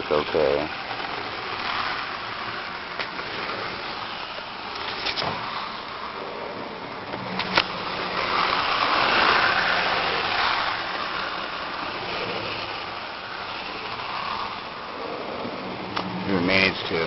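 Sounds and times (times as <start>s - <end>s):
model trains whirring on track: 0.0s - 17.0s.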